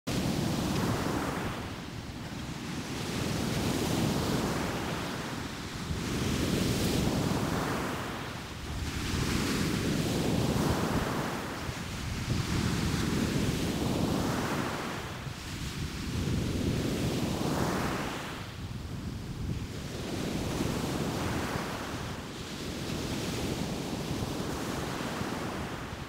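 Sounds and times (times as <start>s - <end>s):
surf breaking on beach: 0.1s - 26.0s
wind rumble on microphone: 0.1s - 26.0s.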